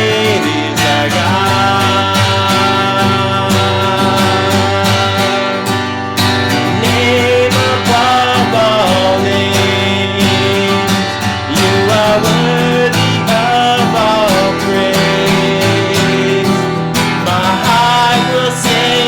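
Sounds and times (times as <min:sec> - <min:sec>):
acoustic guitar strumming: 0:00.0 - 0:19.0
person singing: 0:00.0 - 0:19.0.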